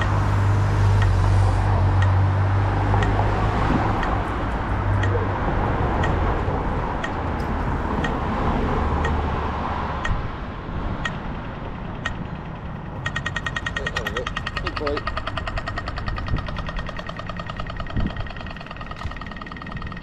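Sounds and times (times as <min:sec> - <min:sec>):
vehicle engine idling: 0:00.0 - 0:08.2, 0:11.0 - 0:20.0
crossing signal ticking: 0:00.0 - 0:20.0
street traffic: 0:00.0 - 0:20.0.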